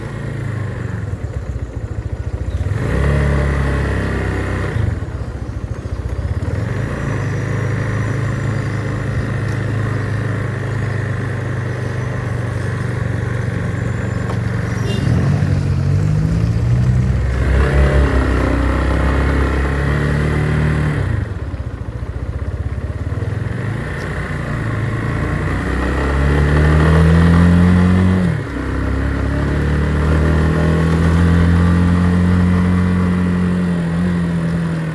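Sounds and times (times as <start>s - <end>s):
motorcycle engine accelerating: 0.0s - 34.9s
wind and road noise: 0.0s - 34.9s.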